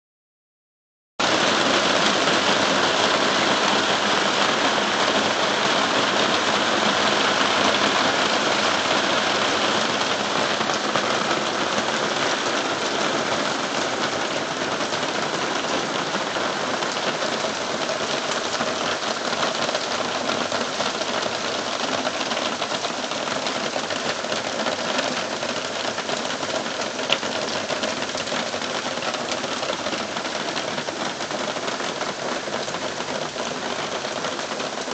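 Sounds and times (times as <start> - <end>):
rain on a plastic roof: 1.2 - 34.9.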